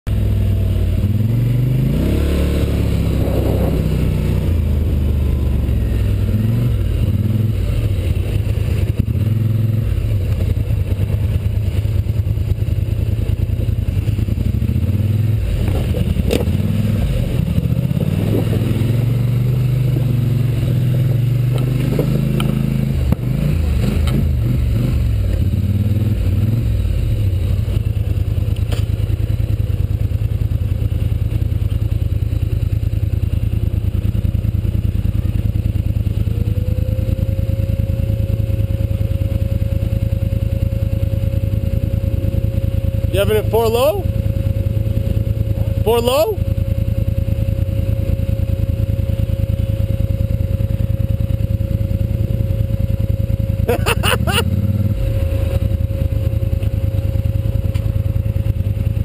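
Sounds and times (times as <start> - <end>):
atv engine revving: 0.1 - 59.0.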